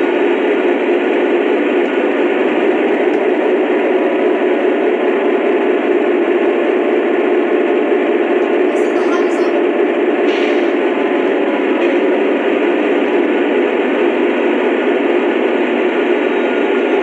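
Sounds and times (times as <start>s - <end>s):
diesel engine rumble from small speaker: 0.0s - 17.0s.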